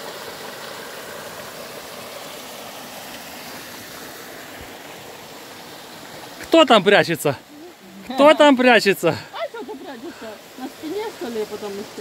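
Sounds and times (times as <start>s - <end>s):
water cascading over rocks: 0.0s - 12.0s.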